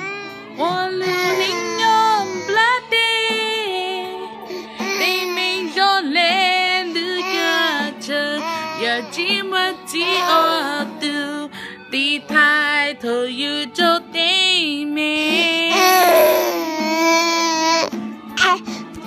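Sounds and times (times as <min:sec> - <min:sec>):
musical backing: 0:00.0 - 0:19.0
woman singing: 0:00.5 - 0:17.2.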